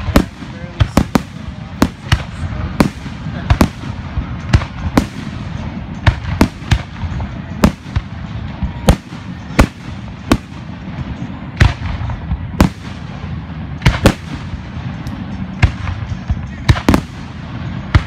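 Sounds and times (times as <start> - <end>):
low rumble of firework bursts: 0.0 - 18.0
sharp firework bangs: 0.0 - 18.0.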